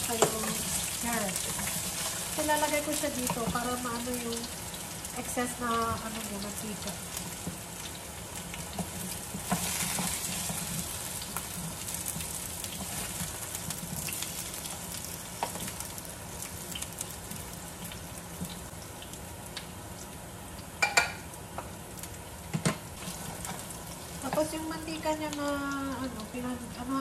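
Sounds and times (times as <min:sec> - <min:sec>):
oil sizzling in a frying pan: 0:00.0 - 0:27.0.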